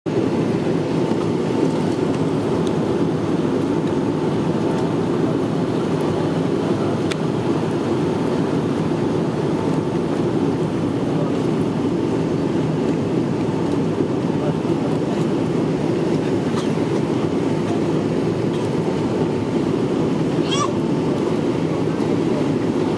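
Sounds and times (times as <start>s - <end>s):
jet airliner rumble: 0.1s - 22.9s.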